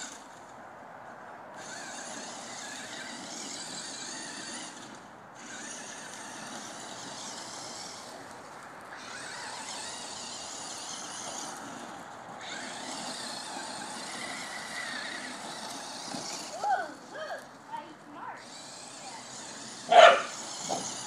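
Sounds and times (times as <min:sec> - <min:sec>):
toy truck motor whirring: 0:00.0 - 0:00.5, 0:01.5 - 0:21.0.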